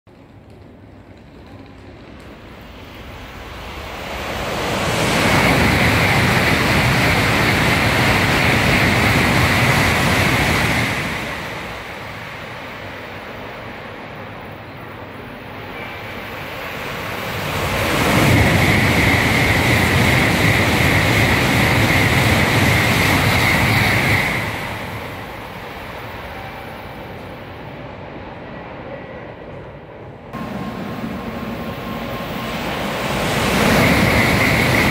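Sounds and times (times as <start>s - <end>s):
bullet train passing at speed: 0.1s - 34.9s.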